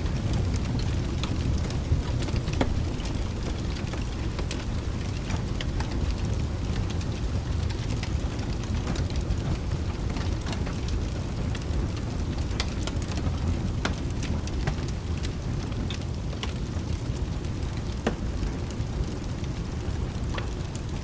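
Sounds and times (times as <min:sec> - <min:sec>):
rain: 0:00.0 - 0:21.0
thunder rumbling: 0:00.0 - 0:21.0
wood fire crackling and popping: 0:00.0 - 0:21.0.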